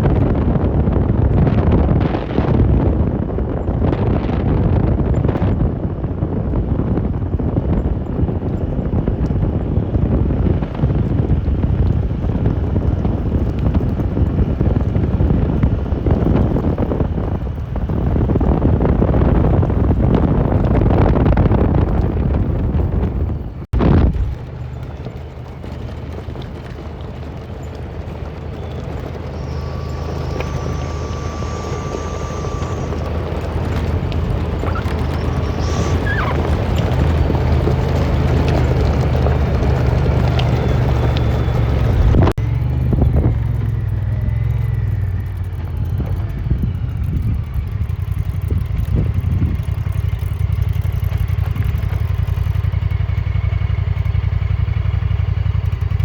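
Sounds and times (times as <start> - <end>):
utility vehicle engine: 0.0 - 56.0
wind buffeting microphone: 0.0 - 56.0.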